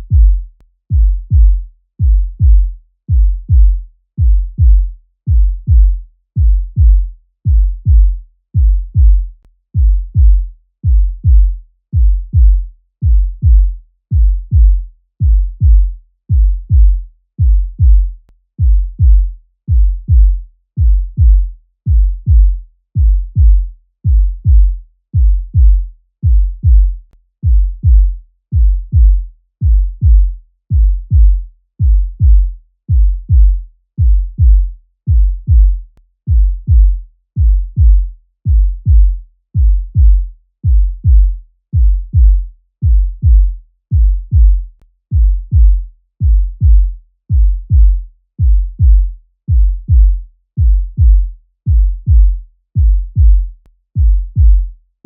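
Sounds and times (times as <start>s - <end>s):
heartbeat thumps: 0.0s - 54.7s.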